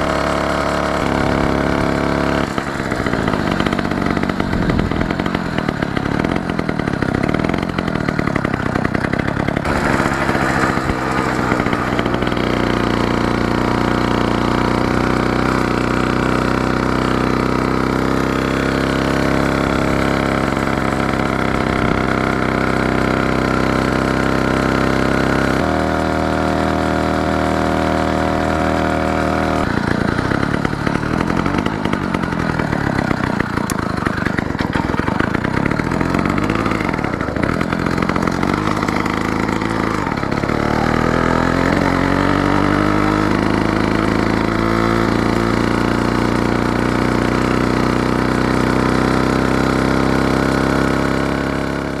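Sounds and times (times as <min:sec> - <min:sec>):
two-stroke motorized bicycle engine: 0:00.0 - 0:52.0.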